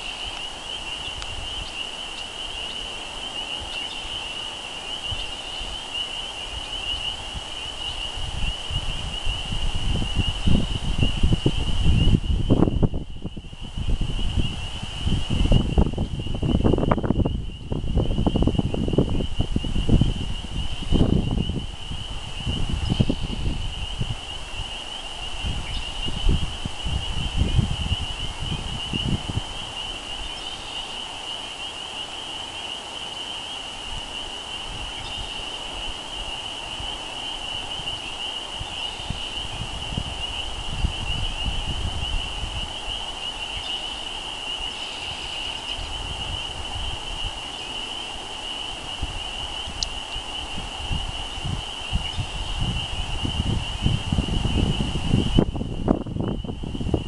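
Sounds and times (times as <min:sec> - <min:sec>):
frogs peeping: 0:00.0 - 0:57.0
wind rumbling on microphone: 0:00.0 - 0:57.0.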